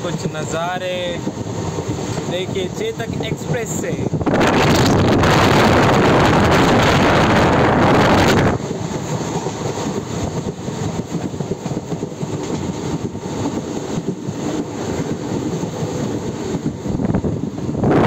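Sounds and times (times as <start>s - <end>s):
train wheels rumbling and rattling: 0.0s - 18.0s.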